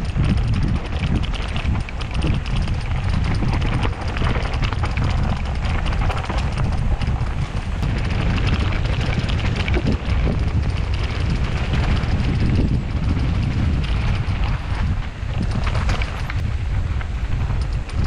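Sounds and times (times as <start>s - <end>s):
bike rattling over bumps: 0.0s - 18.0s
wind rumble on microphone: 0.0s - 18.0s.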